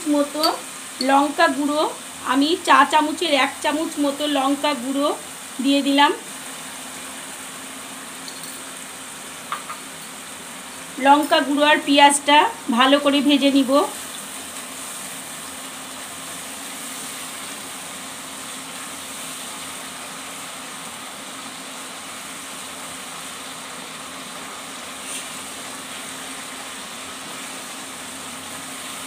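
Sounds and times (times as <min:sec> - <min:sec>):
paste sizzling in hot oil: 0:00.0 - 0:29.0.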